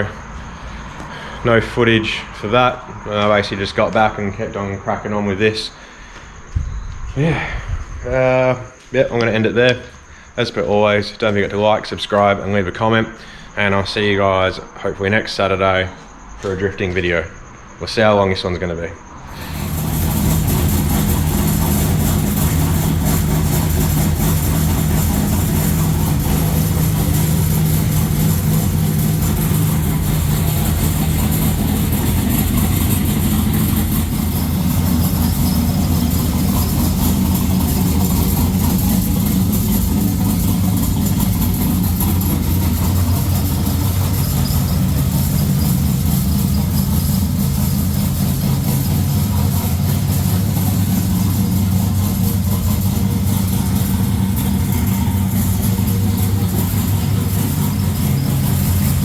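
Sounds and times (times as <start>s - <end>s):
car engine idling: 0.0s - 6.6s, 7.9s - 16.5s, 19.0s - 59.0s.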